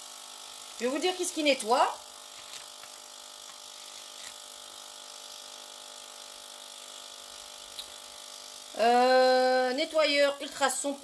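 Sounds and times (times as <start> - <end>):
ultrasonic cleaner buzzing: 0.0 - 11.0.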